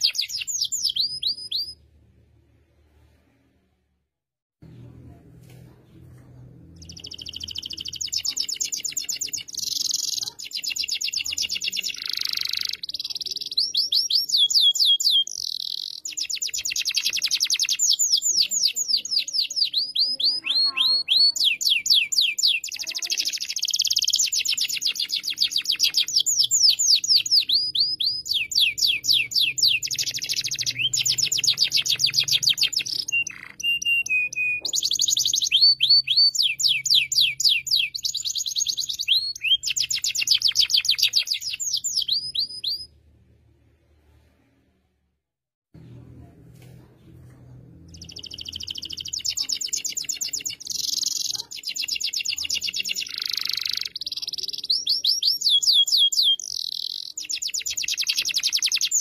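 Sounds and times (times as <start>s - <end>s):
canary trilling song: 0.0s - 1.9s, 6.7s - 43.0s, 47.8s - 59.0s.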